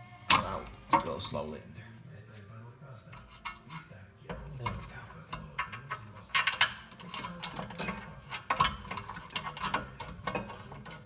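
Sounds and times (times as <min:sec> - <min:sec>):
hand tools clicking and clattering: 0:00.3 - 0:01.7, 0:03.0 - 0:11.0.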